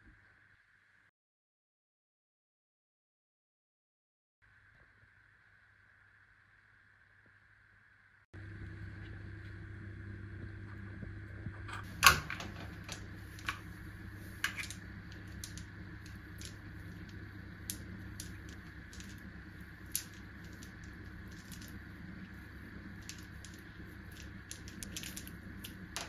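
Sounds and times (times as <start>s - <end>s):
steady low hum: 4.5s - 26.0s.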